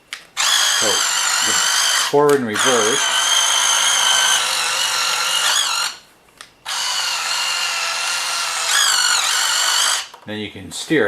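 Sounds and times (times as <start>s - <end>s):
electric motors whining: 0.4s - 6.0s, 6.6s - 10.2s.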